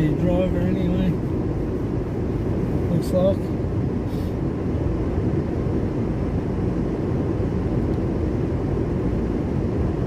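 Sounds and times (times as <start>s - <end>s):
low rumble inside car: 0.0s - 10.0s.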